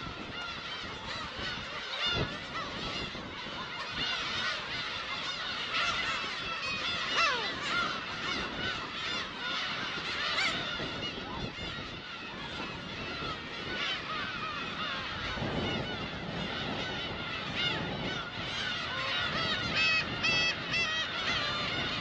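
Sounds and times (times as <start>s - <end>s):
gull colony calling: 0.0s - 22.0s.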